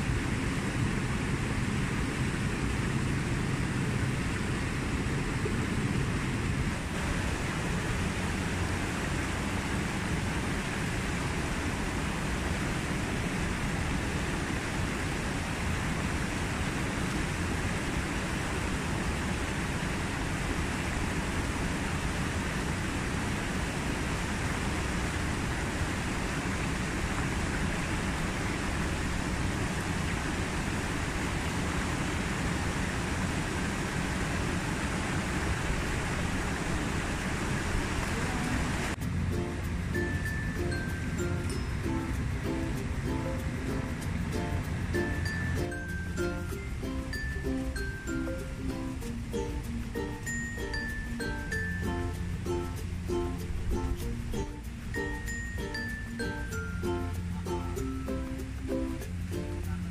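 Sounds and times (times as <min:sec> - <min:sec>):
river rapids rushing: 0:03.7 - 0:59.9.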